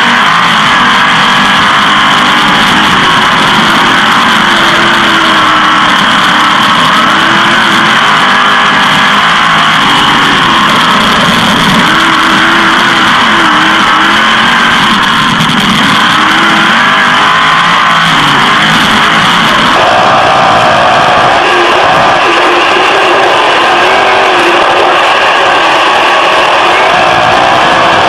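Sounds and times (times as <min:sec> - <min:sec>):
race car engines roaring: 0:00.0 - 0:28.0.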